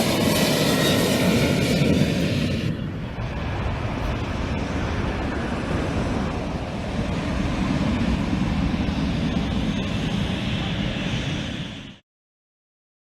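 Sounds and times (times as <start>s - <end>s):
aircraft rumble and hiss: 0.0s - 12.0s
jet engine whine: 0.0s - 12.0s.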